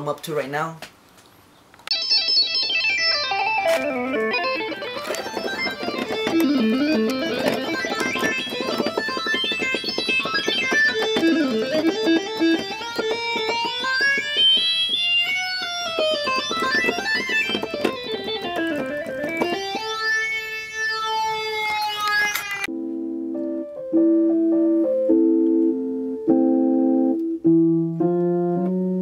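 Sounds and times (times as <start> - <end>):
electronic keyboard playing: 1.9 - 29.0.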